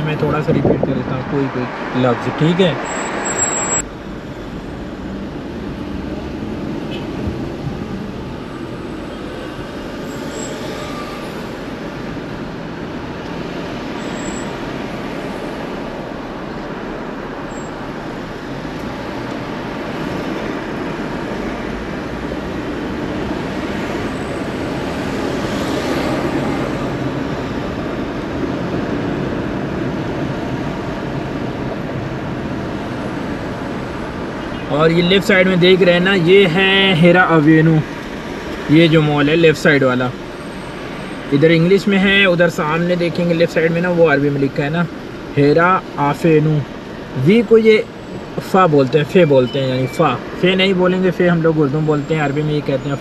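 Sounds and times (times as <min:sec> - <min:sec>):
hiss of surrounding traffic: 0:00.0 - 0:53.0.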